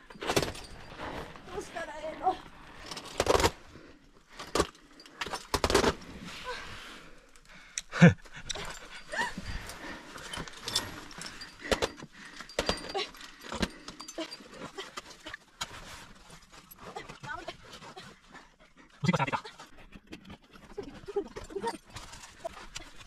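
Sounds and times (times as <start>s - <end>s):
climbing gear clinking on rock: 0.0s - 23.0s.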